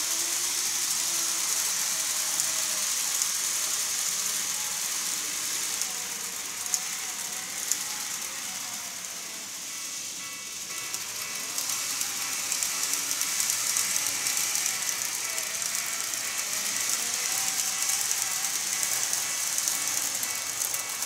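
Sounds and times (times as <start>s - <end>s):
model trains rattling on track: 0.0s - 21.0s.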